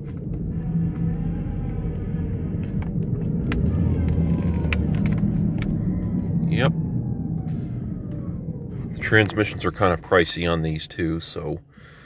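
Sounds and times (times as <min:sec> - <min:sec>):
faint whine: 0:00.0 - 0:11.5
car engine rumble: 0:00.0 - 0:12.0.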